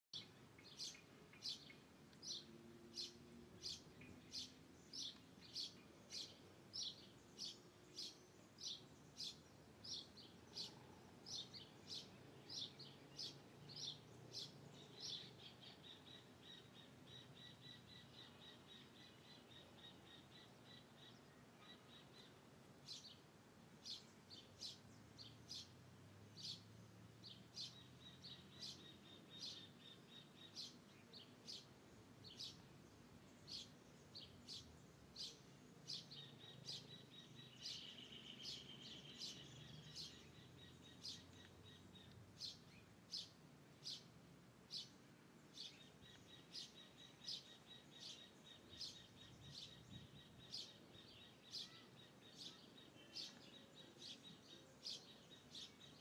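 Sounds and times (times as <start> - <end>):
bird chirping: 0.2 - 56.0.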